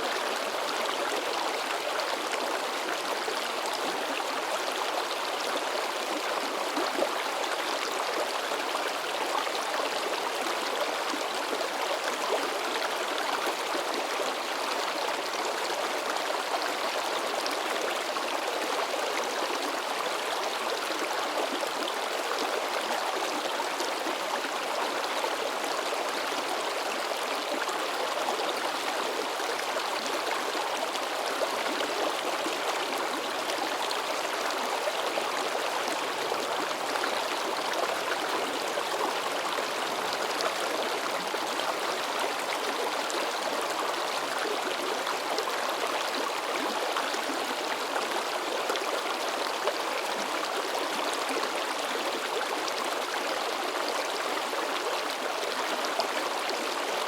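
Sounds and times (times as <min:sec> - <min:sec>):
river babbling and splashing: 0:00.0 - 0:57.0.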